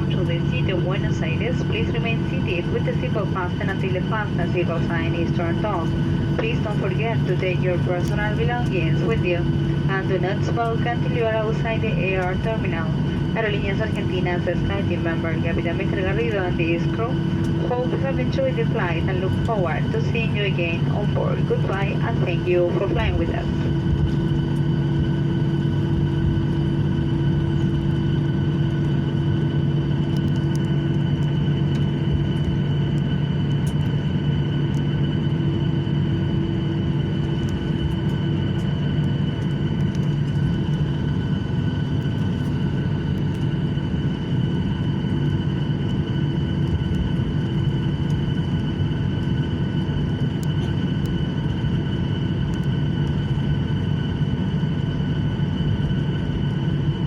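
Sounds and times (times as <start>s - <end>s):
airliner cabin rumble: 0.0s - 57.0s
cabin air system: 0.0s - 57.0s
jet engines humming and whining: 0.0s - 57.0s.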